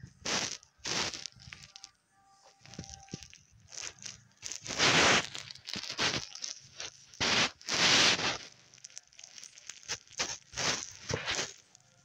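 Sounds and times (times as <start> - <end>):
rustling: 0.0 - 1.9, 2.5 - 12.0.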